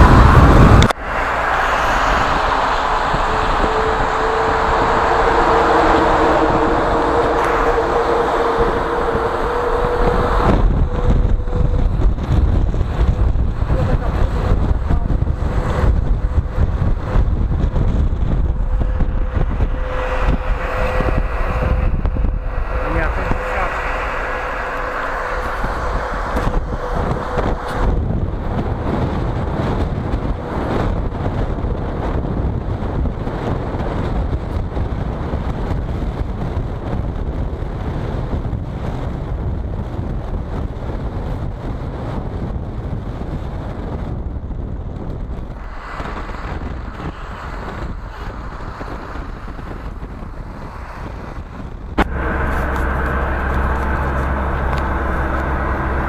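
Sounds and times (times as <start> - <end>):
tyres and wind rushing: 0.0 - 56.0.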